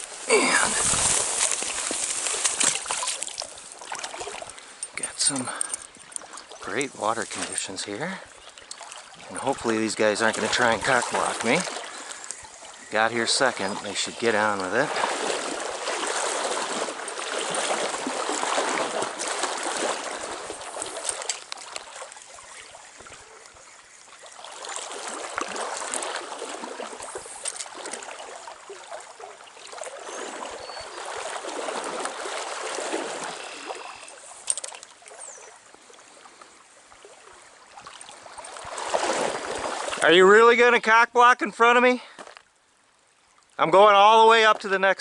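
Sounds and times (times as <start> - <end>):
stream rushing and trickling: 0.0 - 45.0.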